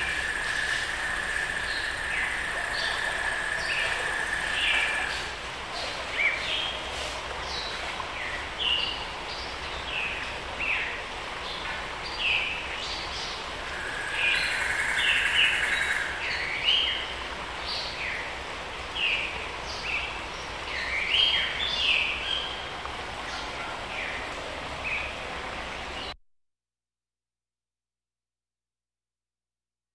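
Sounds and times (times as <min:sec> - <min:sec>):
steady background hiss: 0:00.0 - 0:26.2.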